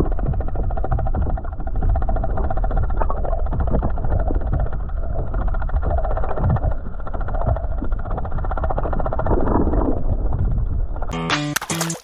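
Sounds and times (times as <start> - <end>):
rapid underwater rattling chatter: 0.0 - 9.8
low water rumble: 0.0 - 11.1.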